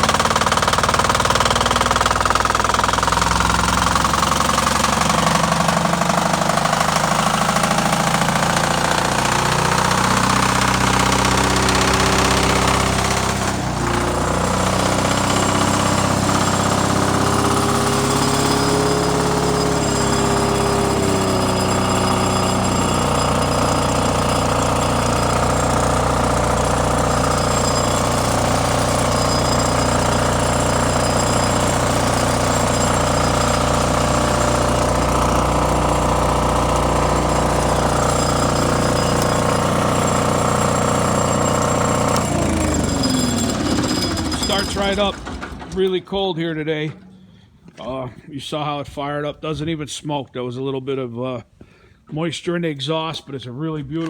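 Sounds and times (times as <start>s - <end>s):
diesel generator running: 0.0s - 49.0s.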